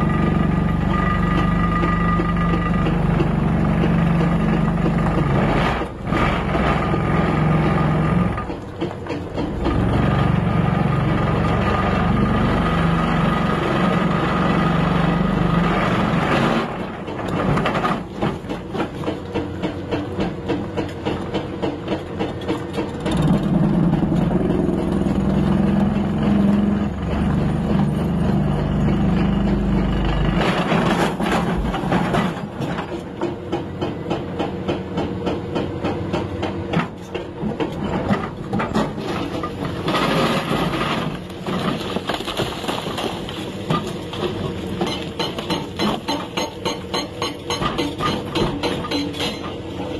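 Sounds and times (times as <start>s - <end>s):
diesel engine running under load: 0.0s - 49.9s
hydraulic breaker hammering rock: 0.0s - 49.9s.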